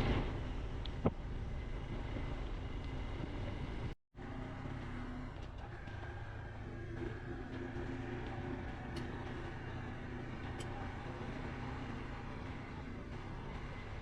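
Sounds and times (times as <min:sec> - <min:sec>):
motorcycle engine running: 0:00.0 - 0:14.0
rushing ride noise: 0:00.0 - 0:14.0.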